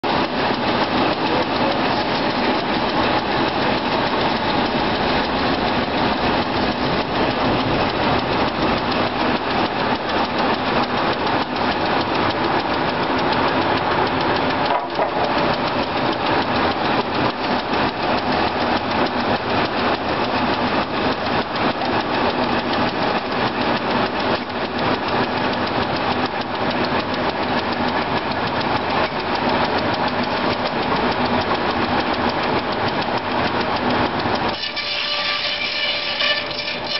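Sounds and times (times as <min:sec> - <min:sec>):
saw mill machinery clatter: 0:00.0 - 0:36.9.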